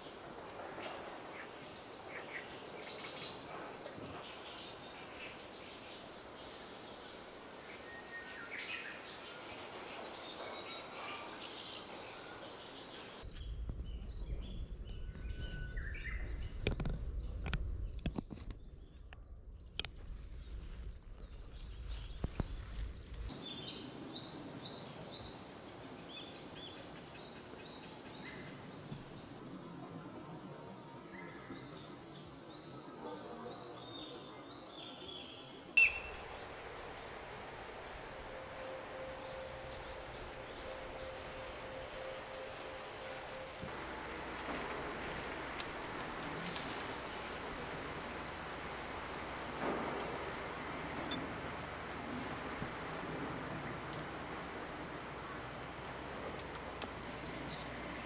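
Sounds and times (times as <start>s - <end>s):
songbirds singing and chirping: 0.0s - 22.6s, 23.3s - 29.6s, 30.3s - 58.0s
outdoor background noise: 0.0s - 58.0s.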